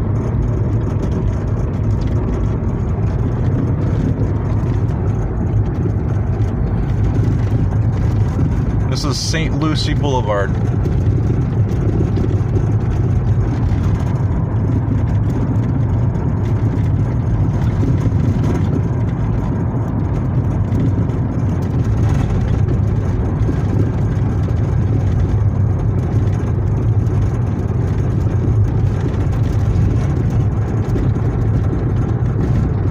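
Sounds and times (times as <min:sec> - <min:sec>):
car road and engine noise: 0:00.0 - 0:32.9.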